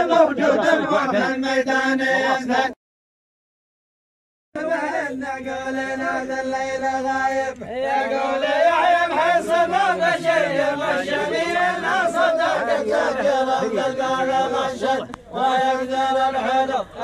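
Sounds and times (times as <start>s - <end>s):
men's chorus chanting: 0.0s - 2.8s, 4.6s - 17.0s.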